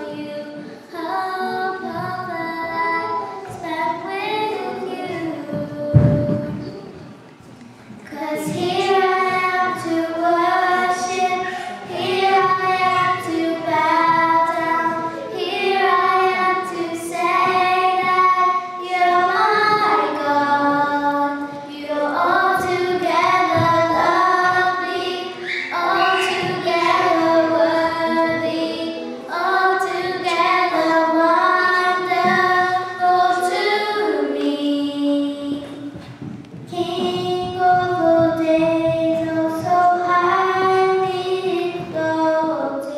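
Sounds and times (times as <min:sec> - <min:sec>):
children singing a hymn: 0:00.0 - 0:42.9.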